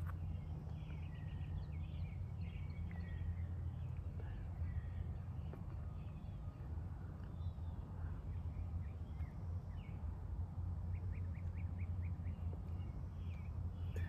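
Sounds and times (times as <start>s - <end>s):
birds chirping: 0.0s - 10.1s, 10.8s - 14.0s
steady low rumble: 0.0s - 14.0s.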